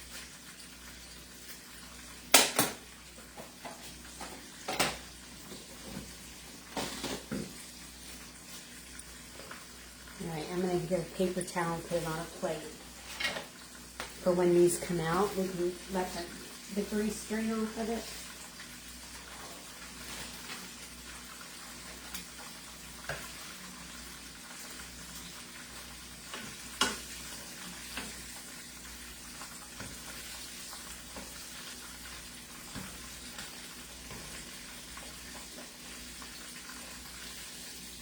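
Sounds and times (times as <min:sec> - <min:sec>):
chicken frying in hot oil: 0:00.0 - 0:38.0.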